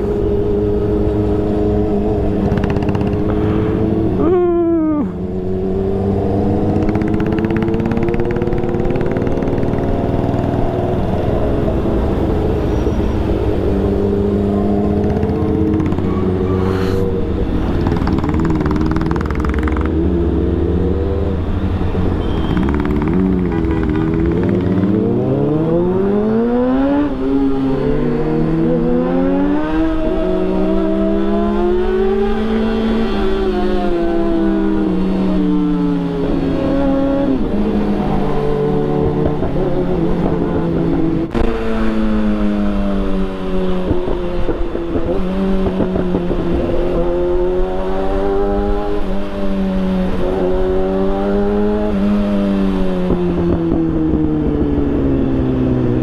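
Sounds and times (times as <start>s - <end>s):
motorcycle engine revving: 0.0s - 4.3s, 5.1s - 56.0s
road and wind noise: 0.0s - 56.0s.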